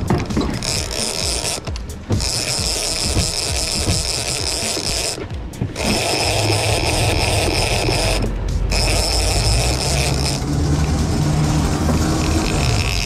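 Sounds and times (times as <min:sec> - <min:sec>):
boat engine droning: 0:00.0 - 0:13.0
fishing reel drag whining: 0:00.0 - 0:13.0.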